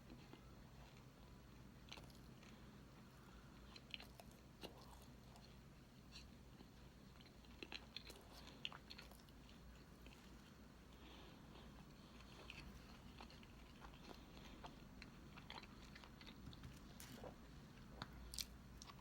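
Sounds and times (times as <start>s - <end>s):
person chewing cake: 0.0s - 19.0s.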